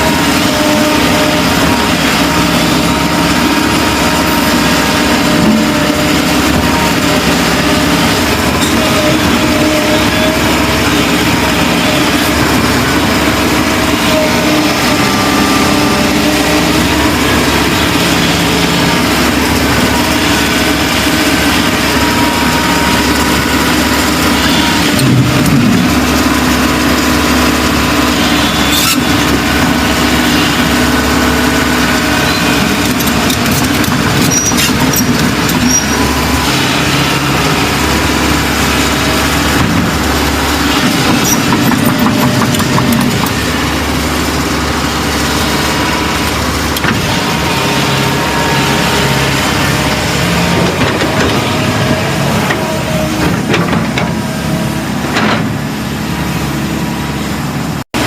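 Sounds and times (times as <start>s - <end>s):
heavy machinery engines: 0.0s - 58.0s.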